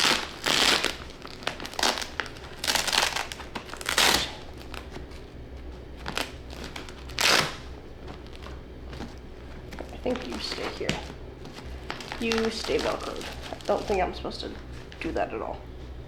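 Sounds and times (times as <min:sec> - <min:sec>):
velcro ripping: 0:00.0 - 0:05.3, 0:05.9 - 0:15.1
fabric rustling: 0:00.0 - 0:16.0.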